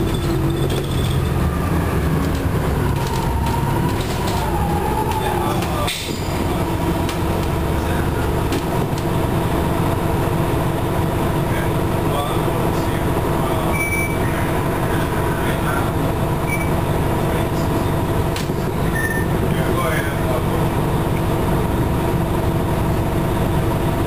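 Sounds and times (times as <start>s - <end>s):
bus engine rumble: 0.0s - 24.0s
constant whine: 0.0s - 24.0s.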